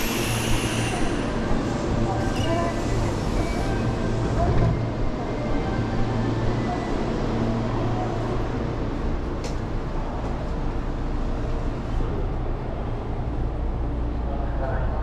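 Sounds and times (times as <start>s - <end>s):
electric train humming: 0.0s - 14.2s.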